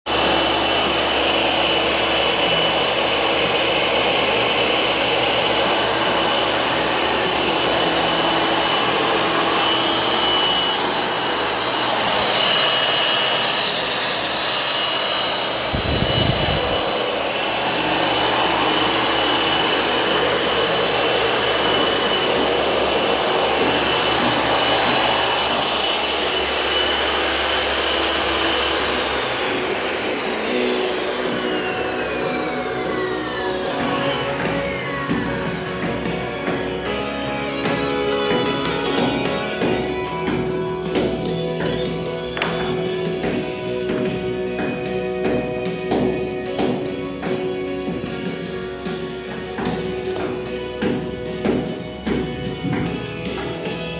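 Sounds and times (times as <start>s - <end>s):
power tool motor whine: 0.1s - 53.9s.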